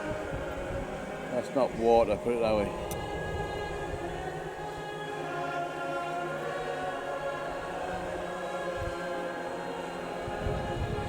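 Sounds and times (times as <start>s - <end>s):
slow choir-like chords: 0.0s - 11.0s.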